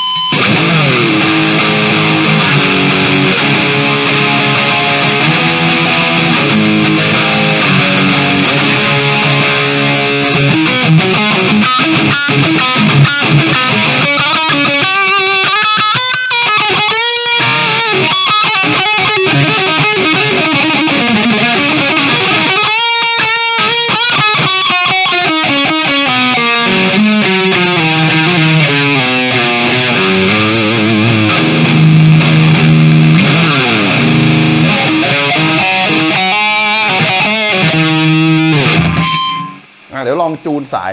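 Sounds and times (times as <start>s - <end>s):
distorted electric guitar: 0.0s - 40.0s.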